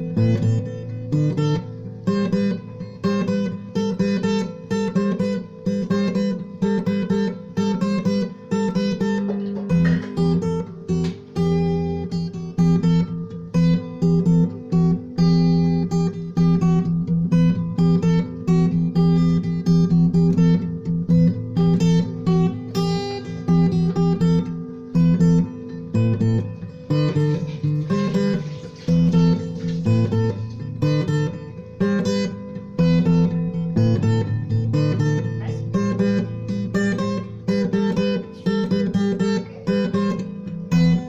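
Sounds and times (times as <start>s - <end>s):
acoustic guitar music: 0.0s - 41.0s.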